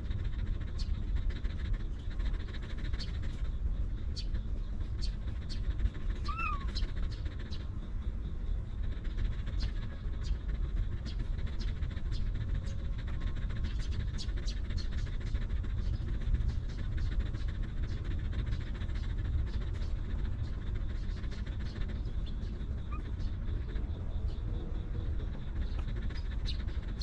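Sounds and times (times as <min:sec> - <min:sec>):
dog panting: 0:00.0 - 0:27.0
low rumble: 0:00.0 - 0:27.0.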